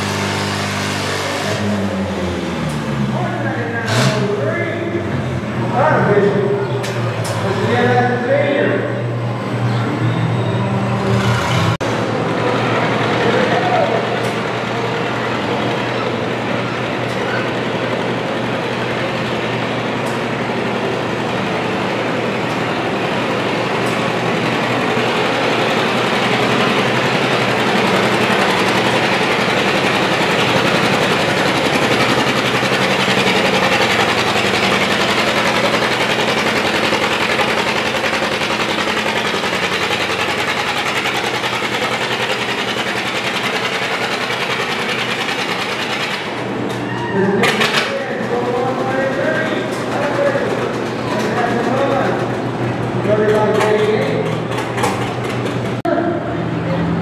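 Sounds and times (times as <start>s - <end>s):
tractor engine chugging under load: 0.0s - 46.8s, 47.4s - 55.8s.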